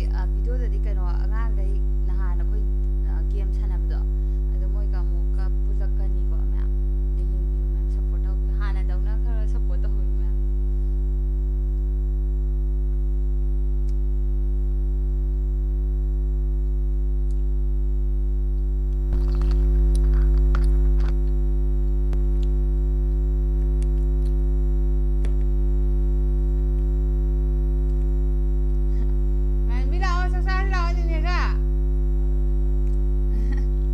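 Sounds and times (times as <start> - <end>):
loud electrical hum: 0.0 - 33.9.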